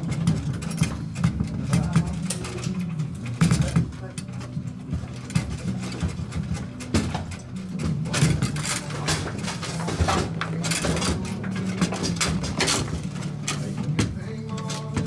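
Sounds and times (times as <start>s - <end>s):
metal rods clacking: 0.0s - 15.0s.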